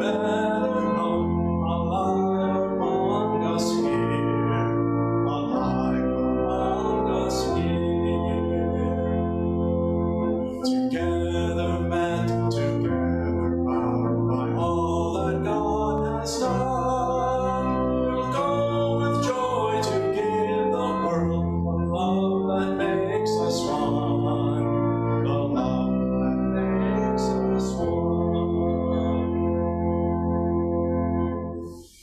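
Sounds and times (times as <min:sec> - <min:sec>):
church organ chords: 0:00.0 - 0:31.8.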